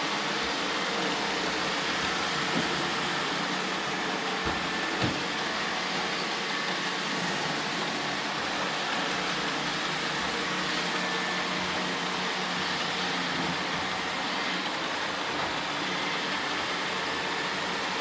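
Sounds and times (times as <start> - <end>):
robot vacuum running: 0.0 - 18.0.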